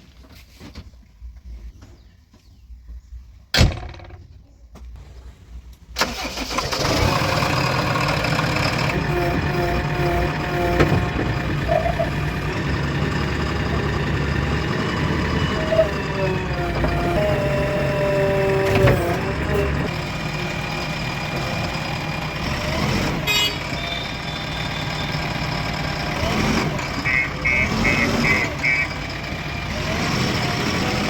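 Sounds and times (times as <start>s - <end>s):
diesel engine starting and running: 5.0s - 31.0s.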